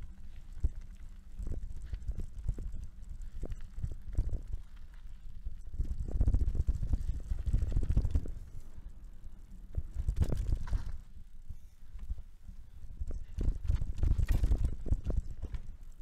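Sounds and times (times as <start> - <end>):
bike rumbling over rough trail: 0.0 - 11.3, 12.0 - 16.0.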